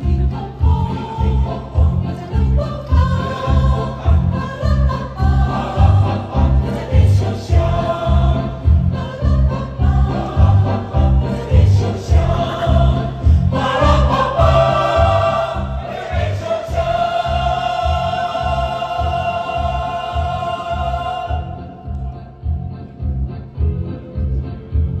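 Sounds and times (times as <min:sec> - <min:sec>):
choir singing: 0:00.0 - 0:22.0
backing track with low beat: 0:00.0 - 0:25.0.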